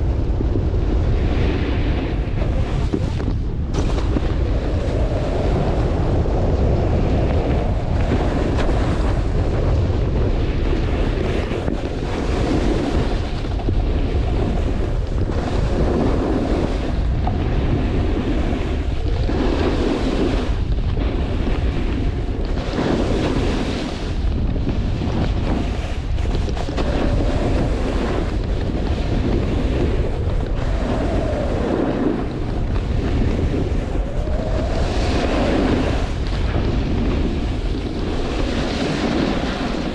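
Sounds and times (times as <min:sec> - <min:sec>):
wind buffeting microphone: 0:00.0 - 0:39.9
skis scraping on snow: 0:00.2 - 0:39.9.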